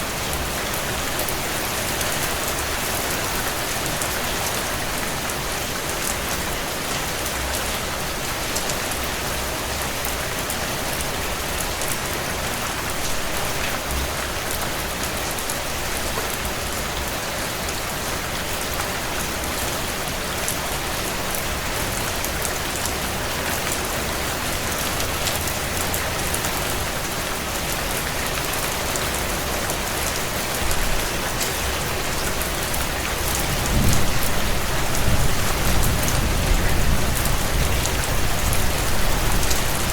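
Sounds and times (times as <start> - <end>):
heavy rain on window glass: 0.1 - 39.9.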